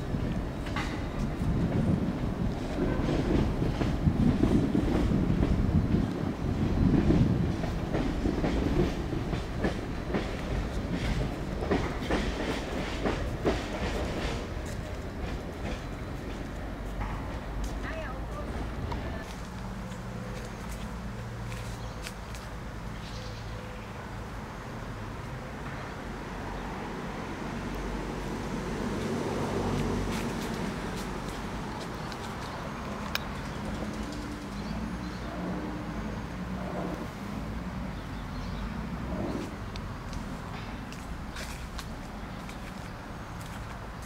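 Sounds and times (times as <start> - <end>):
road traffic hum: 0.0 - 44.0
tram rolling on rails: 0.0 - 44.0.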